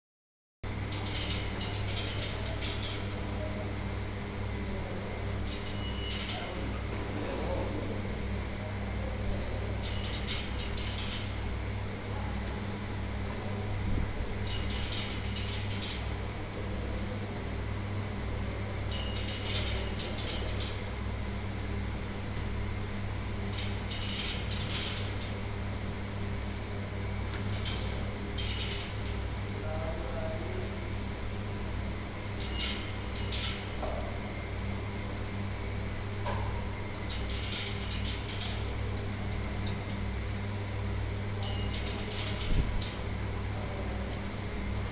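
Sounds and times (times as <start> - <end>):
dishwasher machine hum: 0.7 - 44.9.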